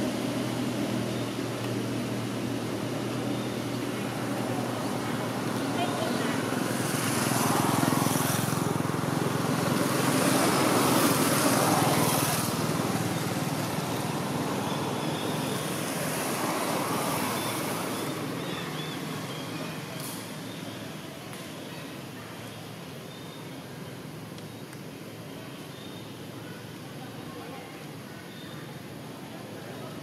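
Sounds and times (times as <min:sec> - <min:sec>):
traffic engine and road rumble: 0:00.0 - 0:30.0.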